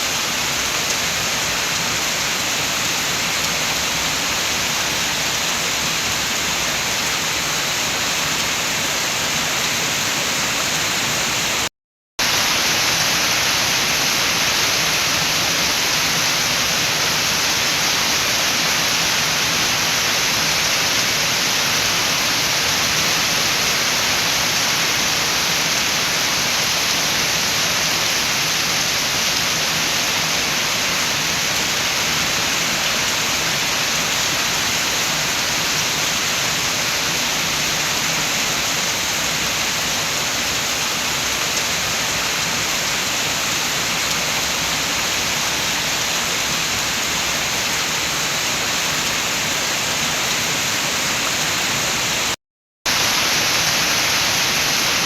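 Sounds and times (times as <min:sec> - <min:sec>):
steady rain: 0:00.0 - 0:55.0
wind: 0:00.0 - 0:55.0.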